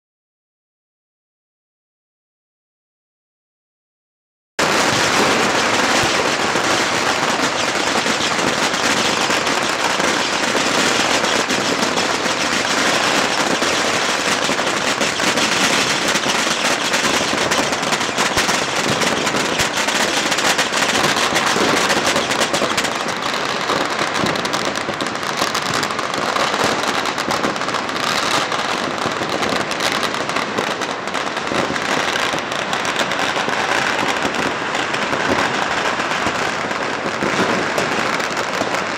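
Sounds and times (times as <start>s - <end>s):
dense firecracker crackle: 4.6s - 38.9s.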